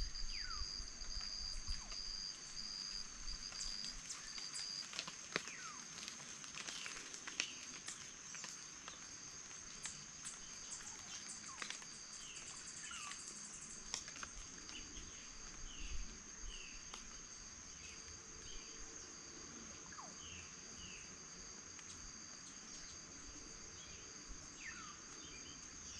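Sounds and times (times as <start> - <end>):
insects trilling: 0.0 - 25.9.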